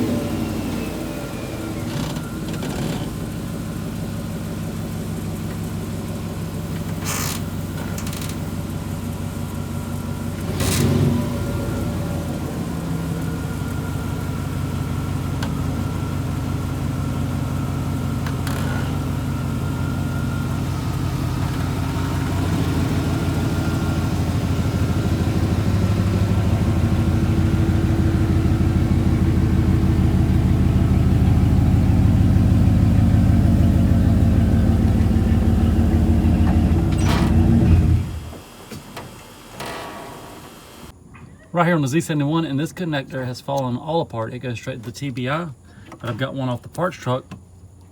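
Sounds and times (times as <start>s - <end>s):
pickup truck exhaust rumble: 0.0s - 38.7s.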